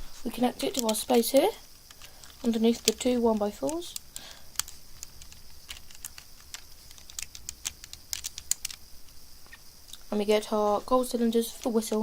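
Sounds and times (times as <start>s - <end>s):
plastic bricks clicking: 0.4s - 10.1s, 11.4s - 12.0s.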